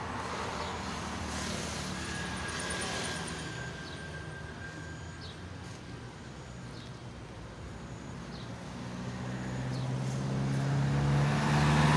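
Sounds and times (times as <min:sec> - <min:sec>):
traffic rumble: 0:00.0 - 0:11.9
vehicle engine approaching: 0:00.0 - 0:11.9.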